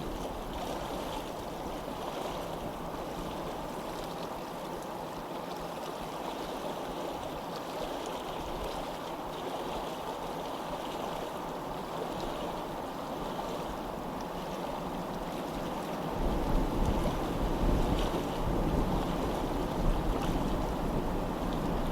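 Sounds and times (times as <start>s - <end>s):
stream water babbling: 0.0s - 21.9s.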